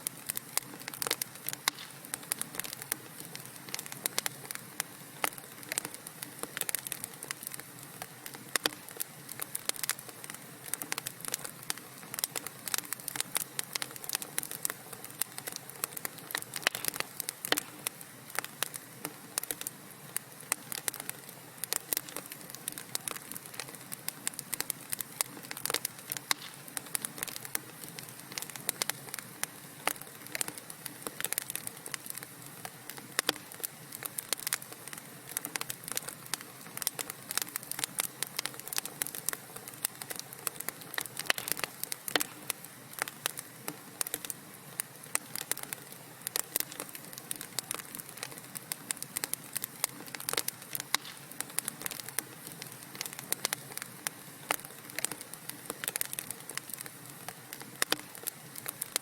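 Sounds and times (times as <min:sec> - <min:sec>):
hiss of burning: 0:00.0 - 0:59.0
wood fire crackling and popping: 0:00.0 - 0:59.0.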